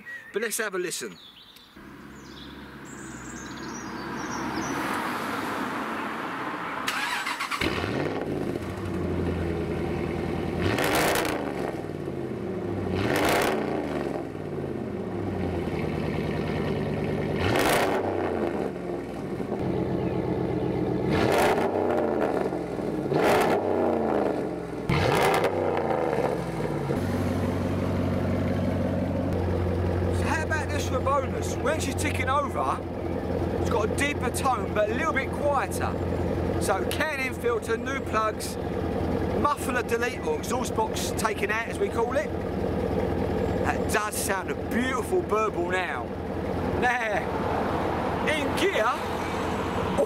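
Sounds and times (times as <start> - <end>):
vehicle exhaust revving and idling: 1.8 - 4.9, 7.6 - 50.0.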